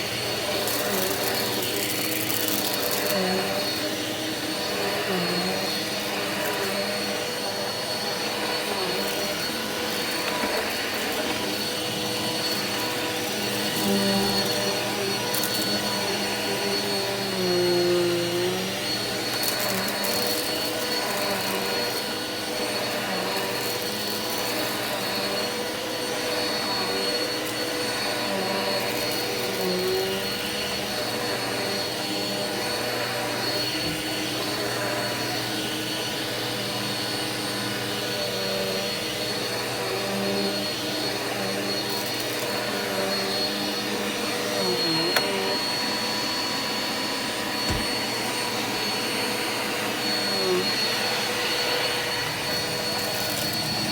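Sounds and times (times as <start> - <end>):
vacuum cleaner on carpet: 0.0 - 53.9.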